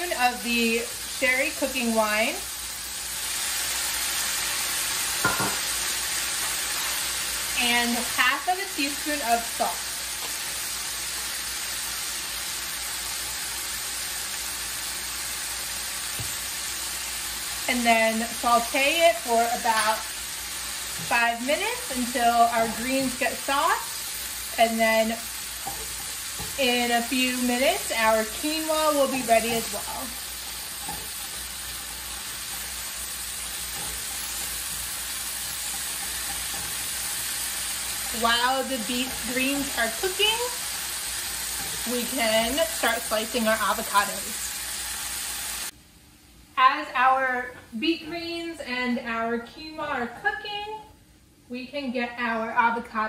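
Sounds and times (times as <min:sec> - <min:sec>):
greens sizzling in oil: 0:00.0 - 0:45.8.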